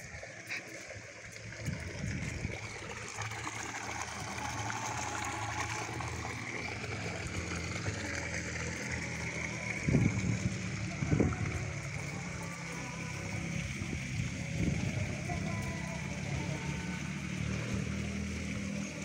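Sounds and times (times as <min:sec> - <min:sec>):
hose water splashing into pool: 0:00.0 - 0:19.0.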